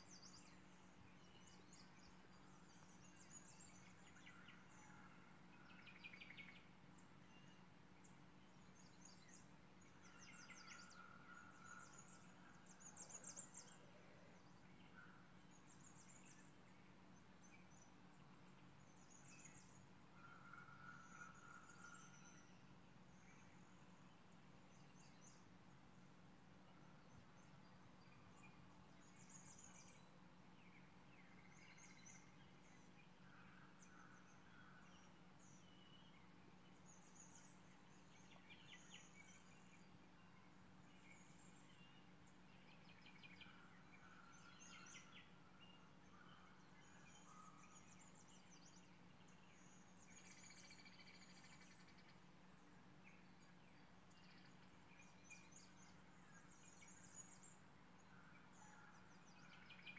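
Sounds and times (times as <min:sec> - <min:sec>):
faint birds chirping: 0:00.0 - 0:59.9
low steady hum: 0:00.0 - 0:59.9.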